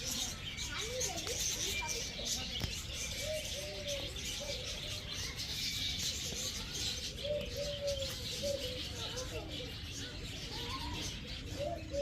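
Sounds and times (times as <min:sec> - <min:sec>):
birds chirping: 0:00.0 - 0:12.0
pigeons cooing: 0:00.0 - 0:12.0.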